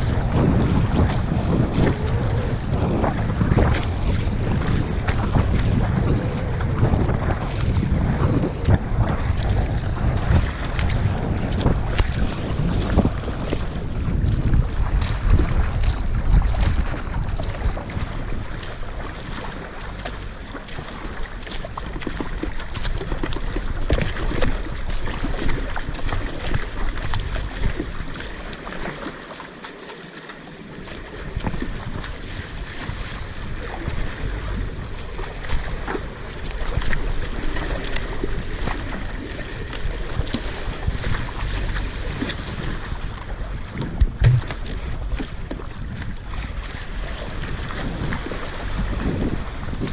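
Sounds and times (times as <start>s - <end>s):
wind buffeting microphone: 0.0s - 29.1s, 30.8s - 49.9s
water noise: 0.0s - 49.9s.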